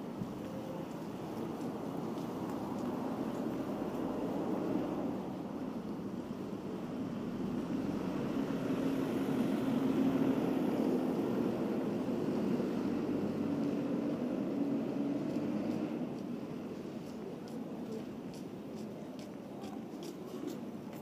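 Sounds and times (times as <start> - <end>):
street traffic hum: 0.0 - 21.0.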